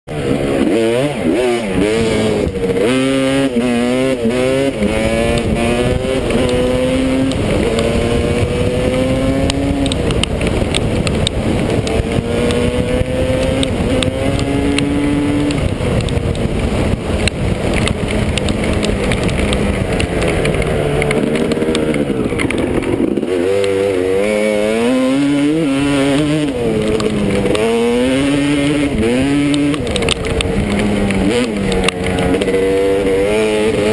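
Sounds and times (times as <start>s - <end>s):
motocross bike engine revving: 0.1s - 33.9s
sharp ticks: 1.3s - 24.2s, 24.9s - 33.9s.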